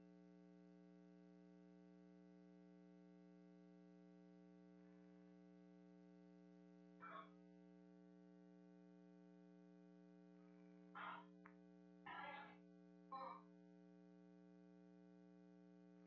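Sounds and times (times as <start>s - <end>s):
electrical mains hum: 0.9s - 16.0s.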